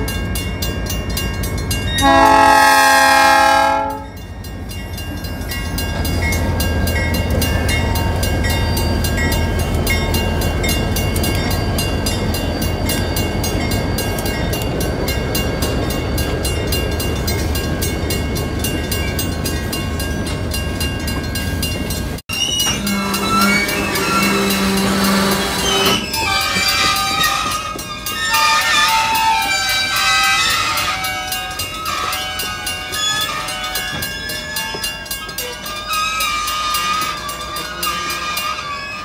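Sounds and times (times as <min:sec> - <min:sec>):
crossing bell ringing: 0:00.0 - 0:39.0
diesel locomotives rumbling: 0:00.0 - 0:39.0
rail cars rolling by: 0:00.0 - 0:39.0.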